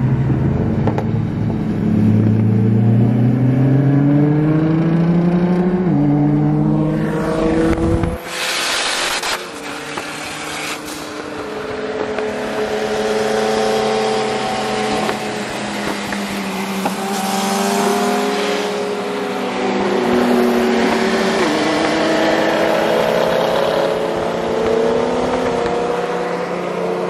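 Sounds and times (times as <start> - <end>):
car engines accelerating: 0.0 - 27.0
sport motorcycle accelerating: 0.0 - 27.0.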